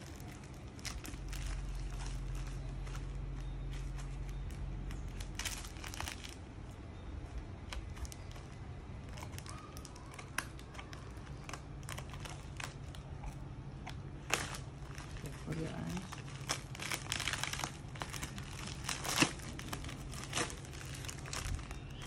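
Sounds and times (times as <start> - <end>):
low steady hum: 0.0 - 22.0
plastic crinkling: 0.0 - 22.0.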